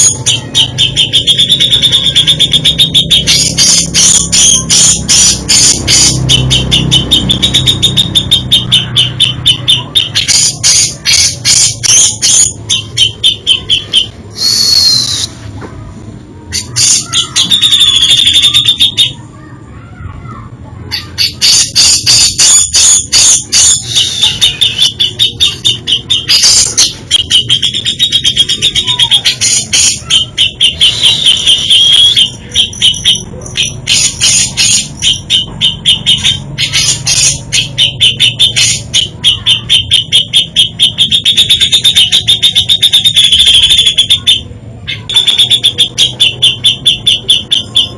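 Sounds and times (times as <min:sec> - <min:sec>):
bulbul singing: 0:00.0 - 0:15.5, 0:16.5 - 0:19.6, 0:20.9 - 0:47.9.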